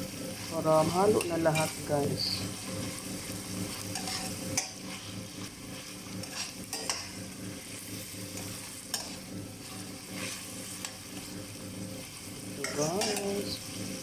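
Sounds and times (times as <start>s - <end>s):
chicken frying in a pan: 0.0s - 14.0s.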